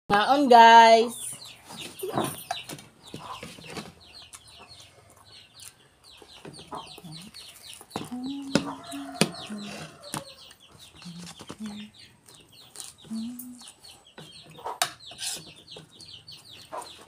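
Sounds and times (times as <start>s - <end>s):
chicks peeping: 1.0s - 17.0s.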